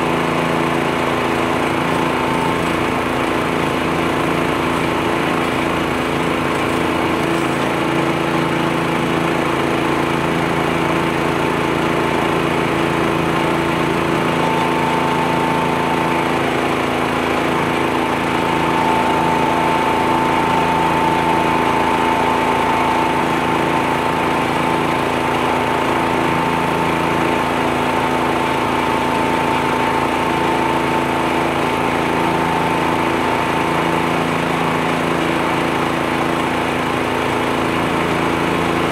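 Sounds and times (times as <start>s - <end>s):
machine humming: 0.0s - 38.9s.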